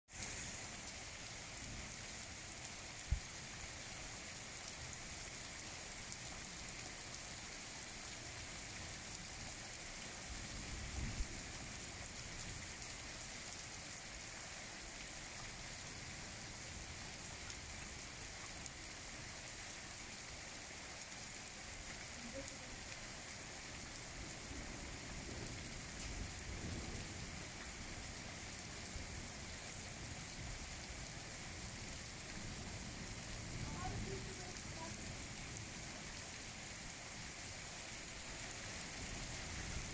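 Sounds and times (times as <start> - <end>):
rain falling on puddles: 0.1 - 39.9.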